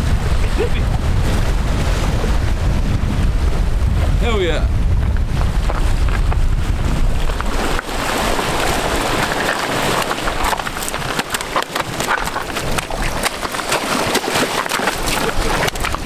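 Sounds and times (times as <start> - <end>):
surf washing over rocks: 0.0 - 16.0
wind rumble on microphone: 0.0 - 16.0.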